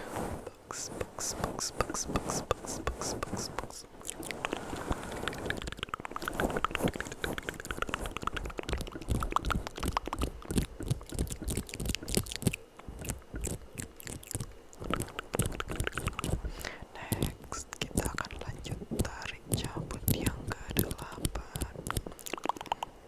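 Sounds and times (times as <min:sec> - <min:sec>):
mouth clicks and smacks: 0:00.7 - 0:23.0.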